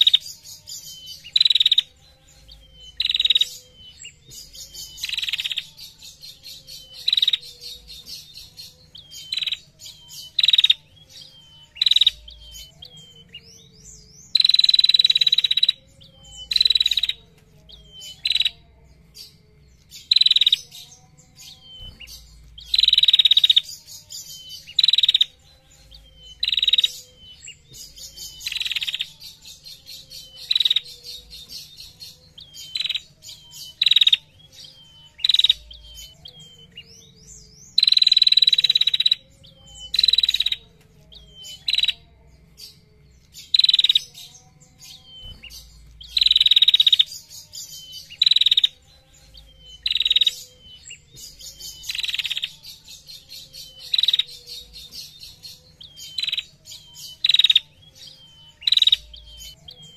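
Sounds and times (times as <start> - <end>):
warbler buzzy trilling calls: 0.0 - 18.6, 20.0 - 42.0, 43.4 - 59.9.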